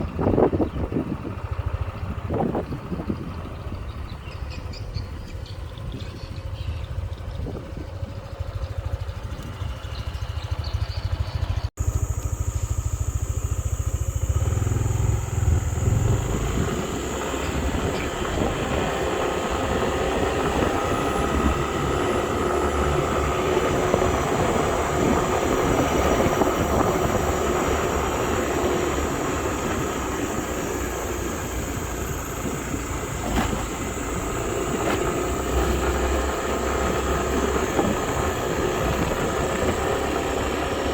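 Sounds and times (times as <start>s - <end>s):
vehicle wind and road noise: 0.0s - 40.9s.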